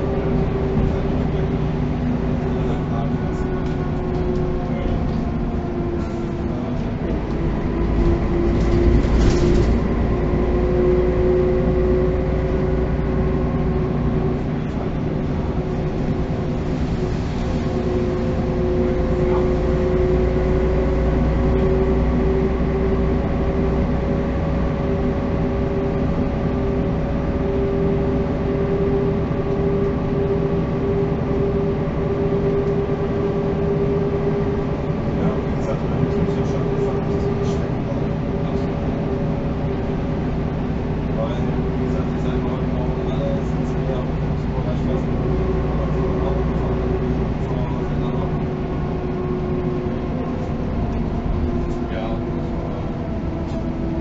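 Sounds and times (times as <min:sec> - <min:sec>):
bus engine rumble and whine: 0:00.0 - 0:54.0.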